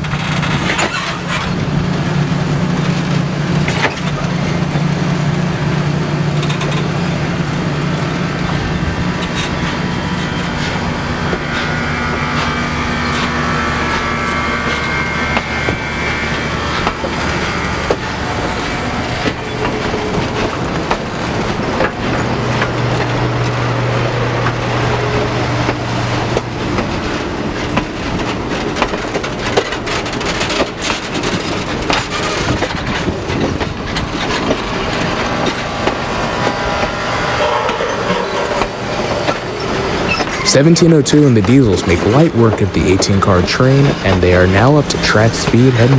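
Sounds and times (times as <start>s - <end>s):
train wheels clicking over rail joints: 0.0s - 41.4s
locomotive engine drone: 0.0s - 45.9s.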